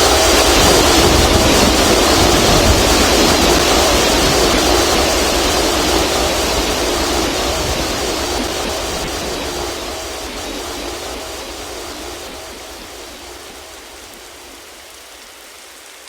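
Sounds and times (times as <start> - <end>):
jet engine roar: 0.0 - 15.3.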